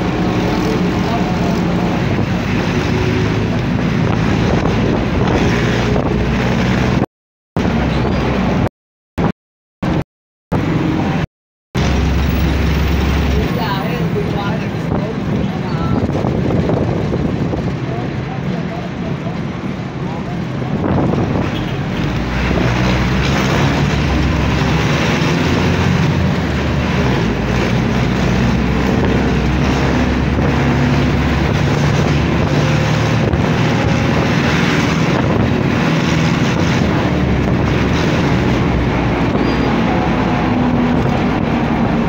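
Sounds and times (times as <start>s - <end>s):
wind noise on microphone: 0.0s - 11.2s, 11.8s - 42.0s
engine rumble: 0.0s - 42.0s.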